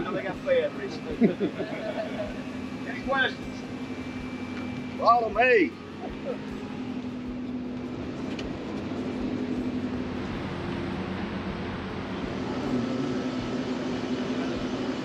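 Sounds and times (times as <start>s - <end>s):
mechanical drone with low hum: 0.0s - 15.0s.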